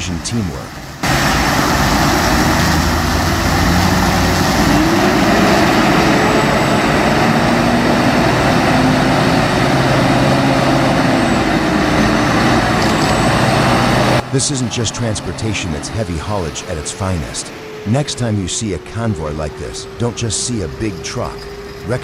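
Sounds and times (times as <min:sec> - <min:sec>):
loud rushing noise: 0:00.0 - 0:22.0
truck diesel engine under load: 0:00.0 - 0:22.0.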